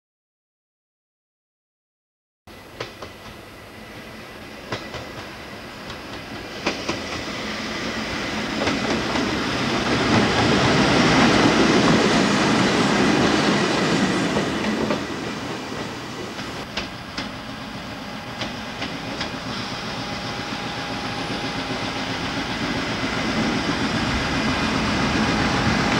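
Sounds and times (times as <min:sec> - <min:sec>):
diesel locomotive passing: 0:02.5 - 0:25.9.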